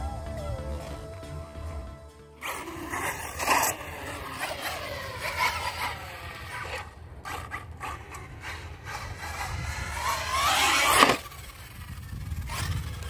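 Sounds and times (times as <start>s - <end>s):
electric toy truck motor whining: 2.4s - 13.0s.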